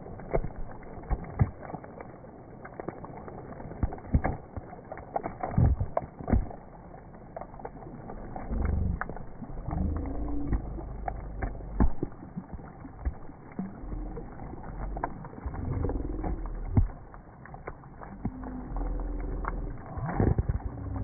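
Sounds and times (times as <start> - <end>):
heavy rain on water: 0.0 - 21.0
water sloshing over microphone: 0.0 - 21.0.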